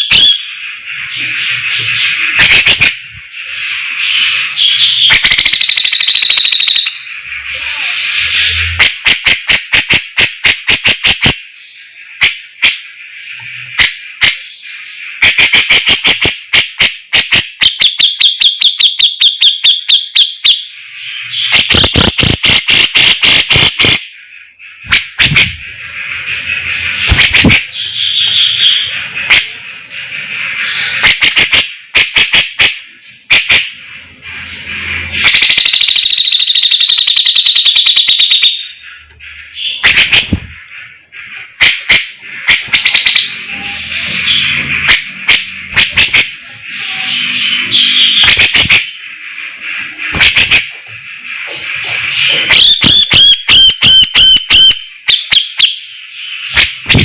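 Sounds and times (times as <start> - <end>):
bird singing rapid sharp notes: 0.0 - 57.0.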